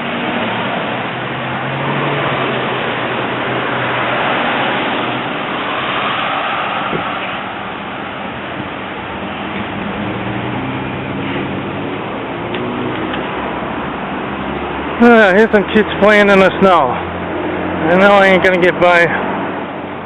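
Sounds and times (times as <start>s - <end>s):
car driving past: 0.0s - 18.0s.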